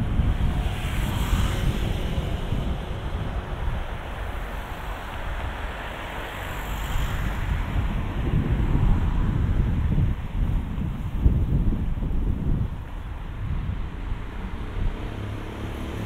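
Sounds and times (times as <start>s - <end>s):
passing street traffic: 0.0s - 16.0s
wind buffeting microphone: 0.0s - 16.0s.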